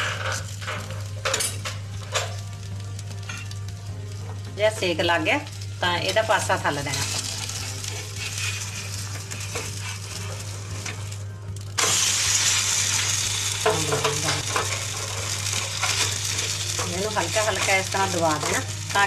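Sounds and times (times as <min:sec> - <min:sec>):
flatbread sizzling on griddle: 0:00.0 - 0:19.0.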